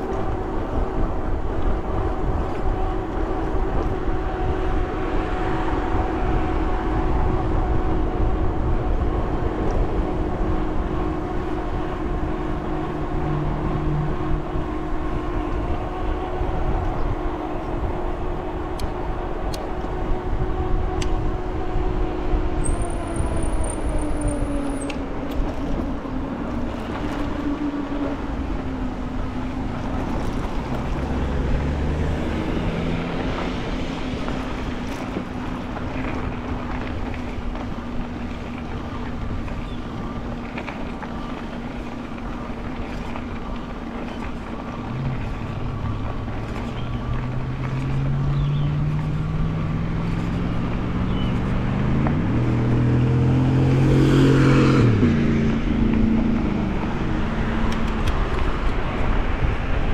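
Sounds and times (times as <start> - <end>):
electric bike motor whining: 0.0 - 53.0
wind noise: 0.0 - 59.9.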